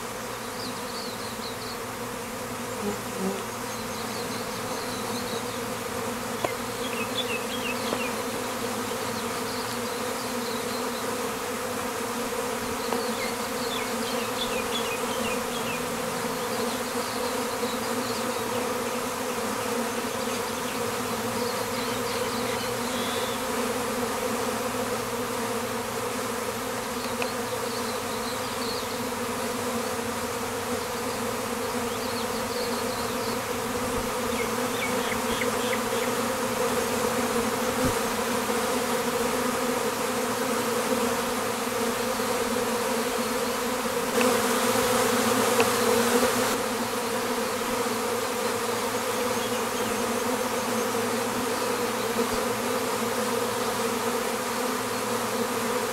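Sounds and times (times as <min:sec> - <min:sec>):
bees humming: 0:00.0 - 0:55.9.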